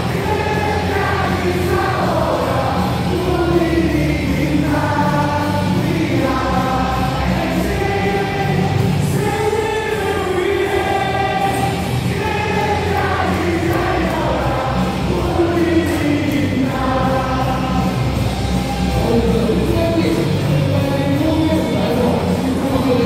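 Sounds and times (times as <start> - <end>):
backing music: 0.0 - 23.0
crowd singing in unison: 0.0 - 23.0.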